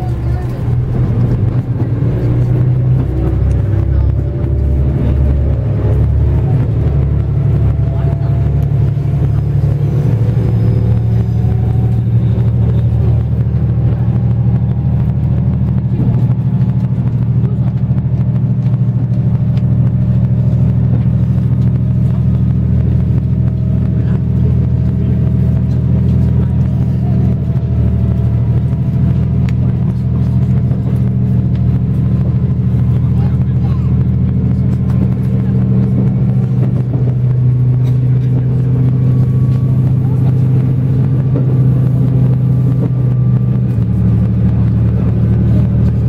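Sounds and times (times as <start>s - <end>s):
diesel railcar engine droning: 0.0s - 46.0s.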